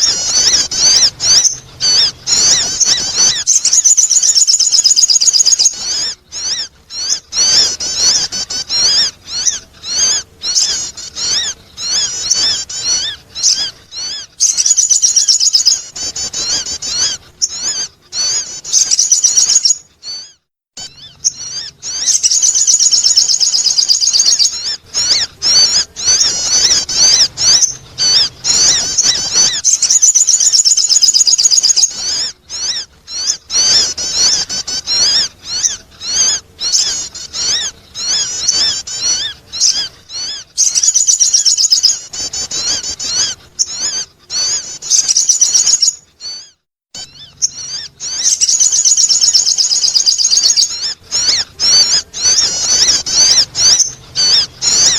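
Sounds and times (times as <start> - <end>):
bird twittering chirps: 0.0 - 54.9.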